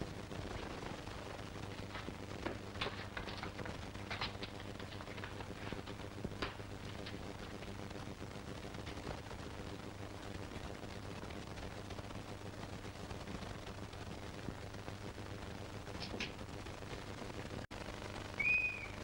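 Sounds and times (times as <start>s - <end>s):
film soundtrack hiss: 0.0s - 19.0s
faint crackling clicks: 1.4s - 18.4s.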